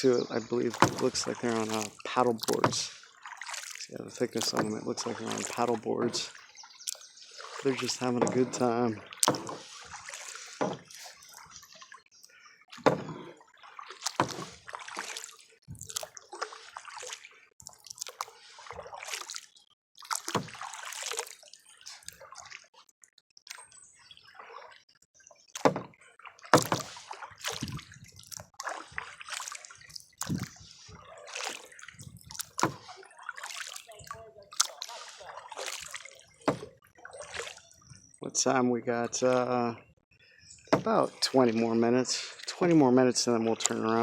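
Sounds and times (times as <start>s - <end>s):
paddle splashing in water: 0.0s - 44.0s.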